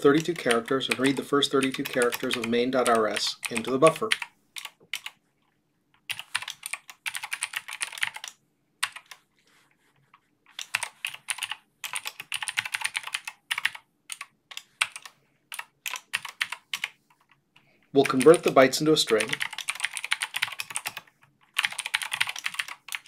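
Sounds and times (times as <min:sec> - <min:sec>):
typing on computer keyboard: 0:00.0 - 0:05.2, 0:06.0 - 0:09.2, 0:10.5 - 0:18.5, 0:19.1 - 0:23.0.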